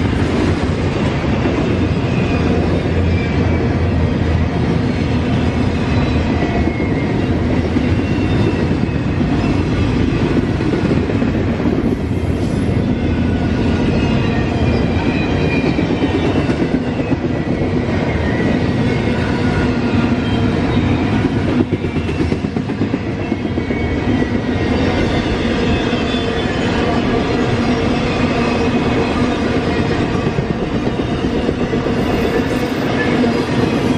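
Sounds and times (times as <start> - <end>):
freight train wheels clacking on rails: 0.0 - 33.9.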